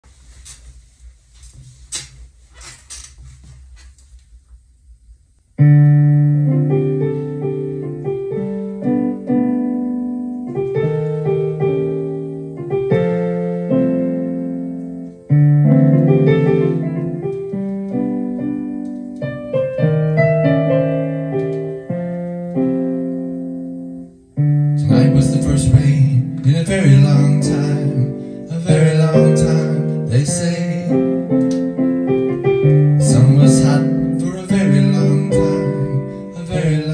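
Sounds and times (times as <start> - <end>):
digital piano playing slow chords: 5.6 - 36.9.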